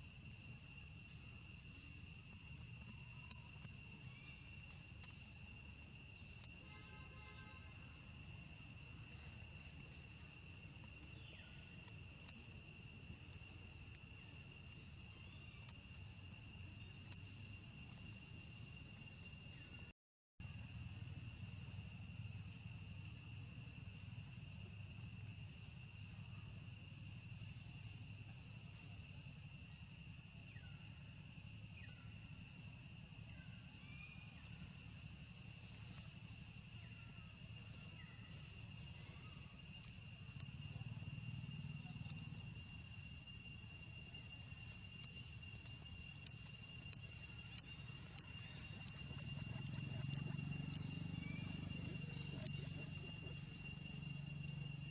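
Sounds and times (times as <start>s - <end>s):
insect chorus drone: 0.0s - 54.9s.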